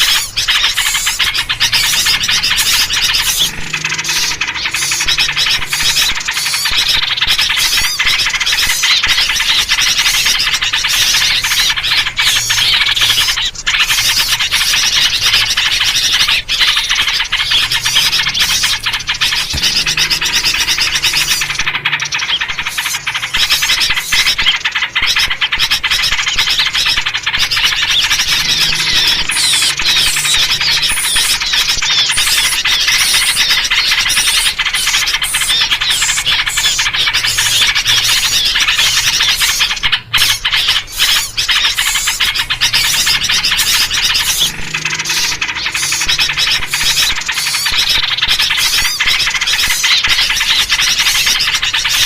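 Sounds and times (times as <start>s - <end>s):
bulbul calls: 0.0s - 52.0s
songbirds chattering: 0.0s - 52.0s.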